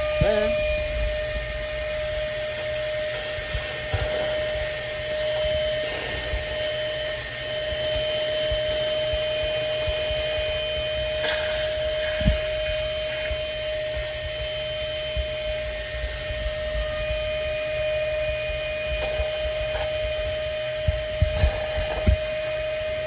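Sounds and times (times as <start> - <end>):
vacuum cleaner whining: 0.0 - 23.0.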